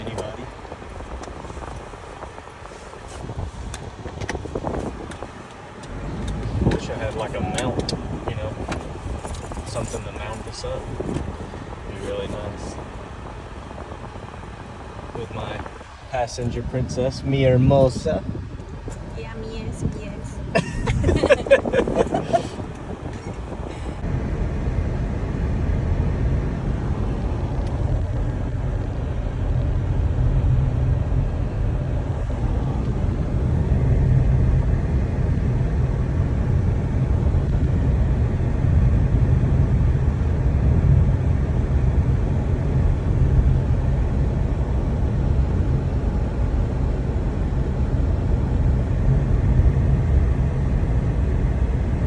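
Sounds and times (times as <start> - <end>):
truck engine and road rumble: 0.0 - 52.0.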